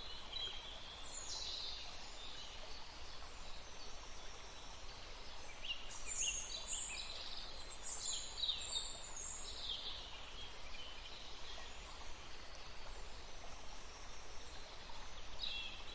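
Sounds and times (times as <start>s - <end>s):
steady background hiss: 0.0s - 15.9s.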